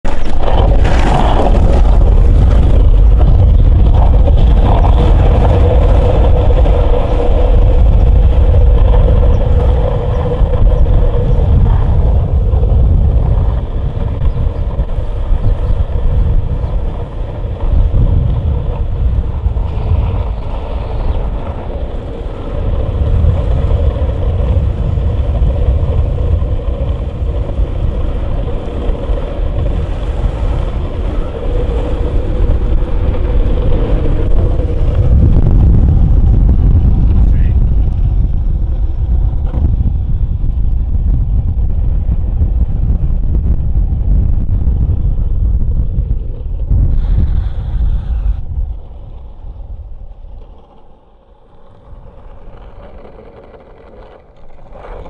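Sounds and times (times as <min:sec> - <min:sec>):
longboard wheels rolling on asphalt: 0:00.0 - 0:55.0
wind buffeting microphone: 0:00.0 - 0:55.0.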